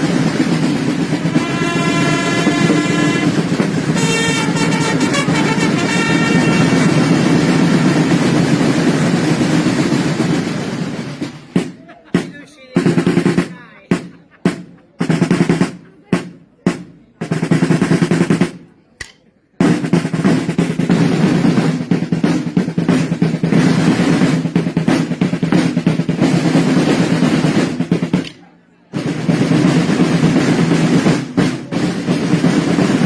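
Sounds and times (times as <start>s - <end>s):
side drum rolls: 0.0s - 18.7s, 19.6s - 28.3s, 29.0s - 33.0s.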